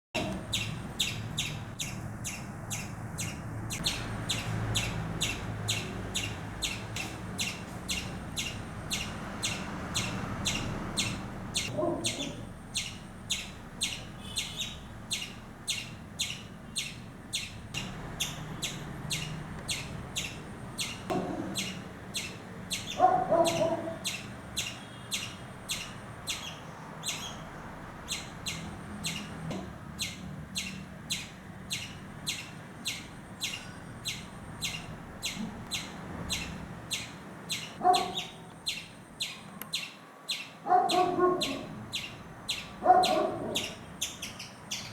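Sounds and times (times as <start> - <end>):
squirrel alarm chirps: 0.2 - 44.9.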